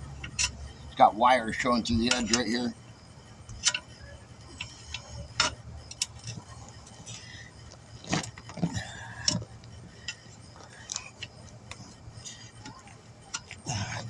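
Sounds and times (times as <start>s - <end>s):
tire tools clinking on metal rim: 0.0s - 2.8s, 3.5s - 14.0s
low steady hum: 0.0s - 14.0s.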